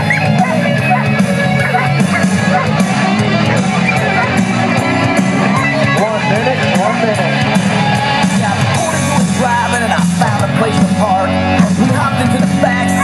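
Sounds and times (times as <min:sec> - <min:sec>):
rock music with singing: 0:00.0 - 0:13.0.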